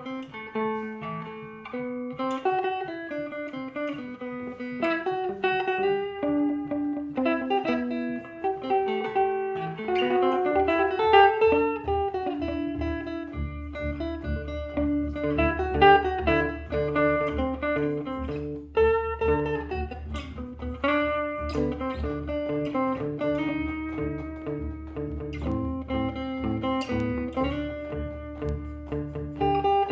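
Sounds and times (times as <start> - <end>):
guitar melody: 0.0 - 29.9.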